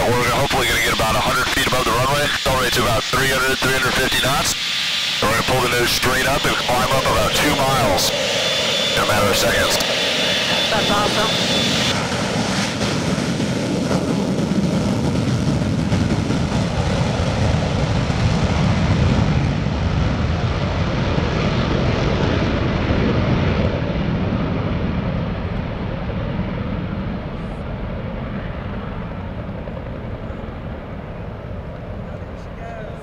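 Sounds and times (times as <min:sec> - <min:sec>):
jet engine roar: 0:00.0 - 0:33.0.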